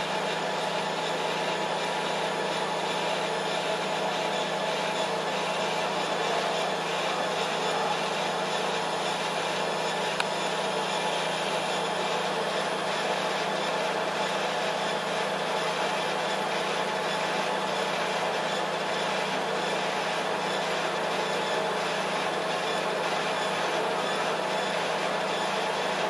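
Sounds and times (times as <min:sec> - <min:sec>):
machine humming: 0:00.0 - 0:26.0.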